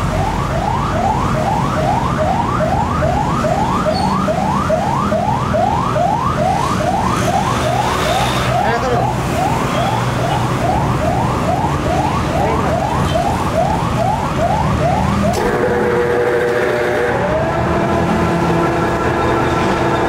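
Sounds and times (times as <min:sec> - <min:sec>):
siren yelping: 0:00.0 - 0:20.0.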